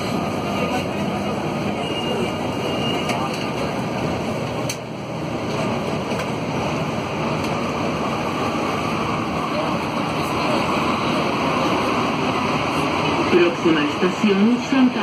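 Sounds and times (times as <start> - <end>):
metro train running noise: 0.0 - 15.0.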